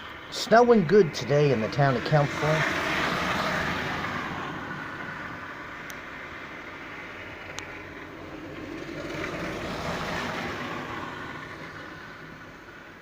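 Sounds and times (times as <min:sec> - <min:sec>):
car passing on snowy street: 0:00.0 - 0:13.0.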